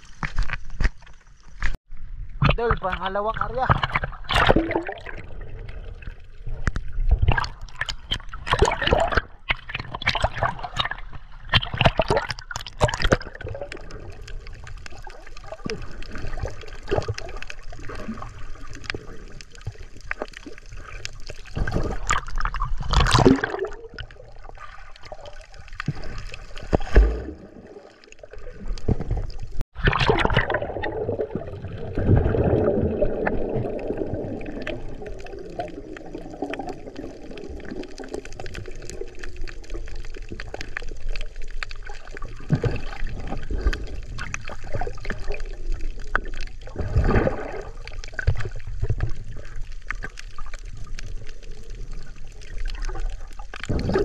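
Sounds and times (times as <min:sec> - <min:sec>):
sea water splashing and gurgling: 0:00.0 - 0:54.0.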